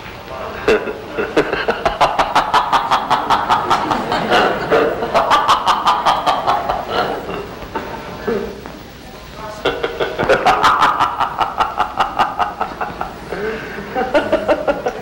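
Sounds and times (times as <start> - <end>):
hearty laughter: 0.5 - 8.6, 9.6 - 15.0.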